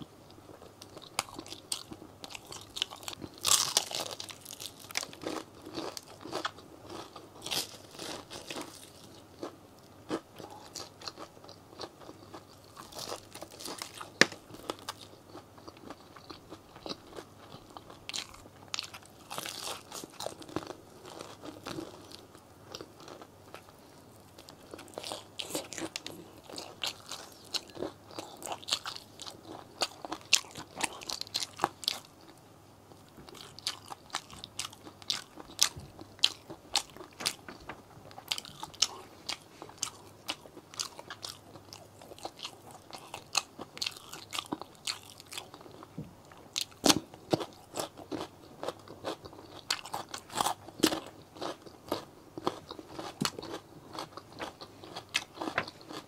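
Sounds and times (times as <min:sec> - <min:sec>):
crunchy chewing of fried chicken: 0:00.0 - 0:56.0.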